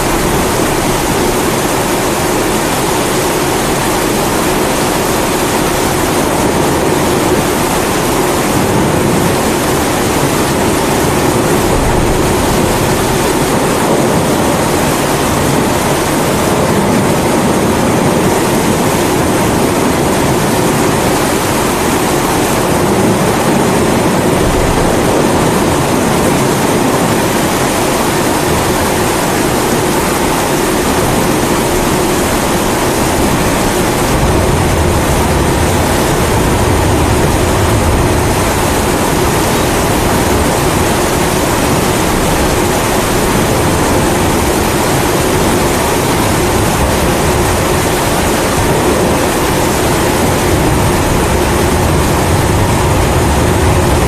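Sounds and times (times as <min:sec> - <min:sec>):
low thunder rumbles: 0:00.0 - 0:54.0
steady rain hiss: 0:00.0 - 0:54.0.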